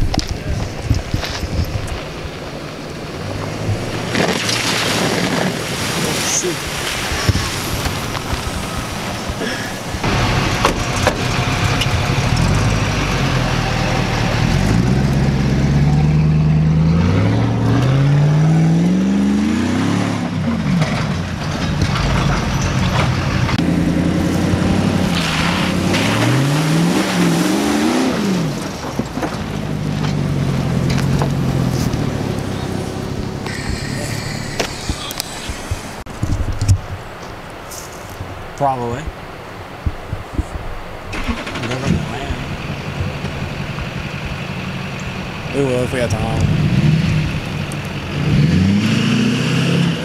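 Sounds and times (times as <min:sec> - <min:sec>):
rush of tyres and wind: 0:00.0 - 0:50.0
truck engine revving: 0:03.0 - 0:36.1, 0:41.1 - 0:50.0.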